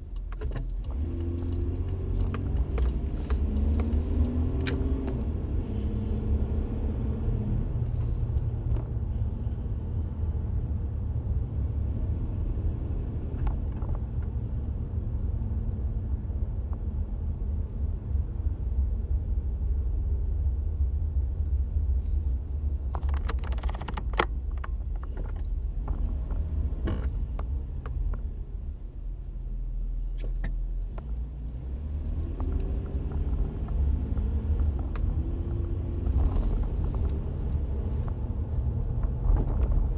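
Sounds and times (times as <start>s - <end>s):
pickup engine low rumble: 0.0s - 39.9s.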